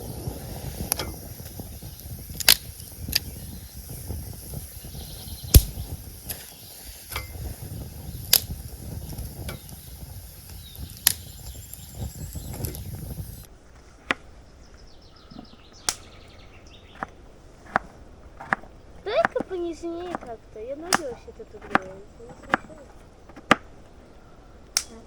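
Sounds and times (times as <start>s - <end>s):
fire popping: 0.0s - 13.5s, 17.0s - 23.8s
campfire crackling: 0.0s - 13.7s, 17.1s - 24.0s.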